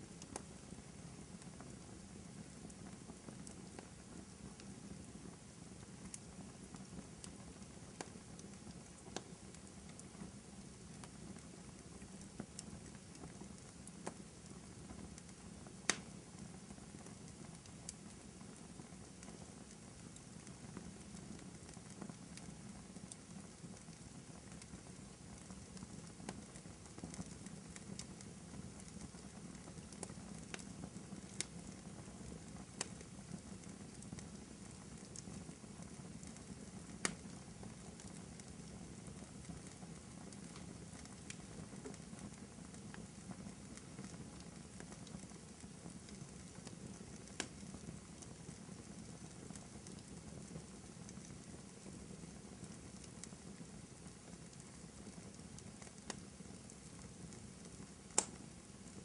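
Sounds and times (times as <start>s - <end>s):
fire crackling: 0.0s - 59.0s
low rumble of flames: 0.0s - 59.0s.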